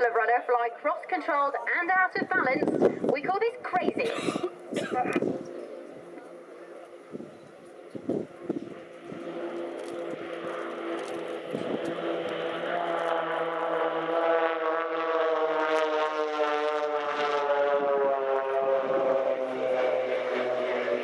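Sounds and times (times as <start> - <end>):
propeller aircraft engine droning: 0.0 - 21.0.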